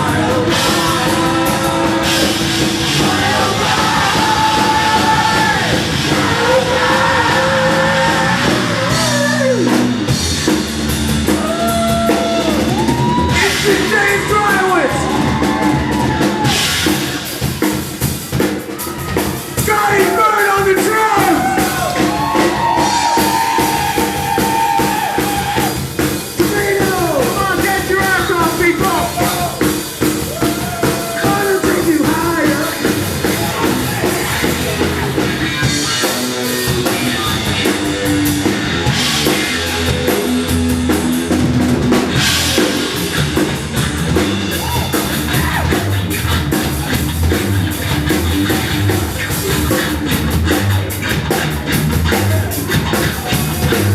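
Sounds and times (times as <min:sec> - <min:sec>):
drum kit and bass drum: 0:00.0 - 0:53.9
rock band playing: 0:00.0 - 0:53.9.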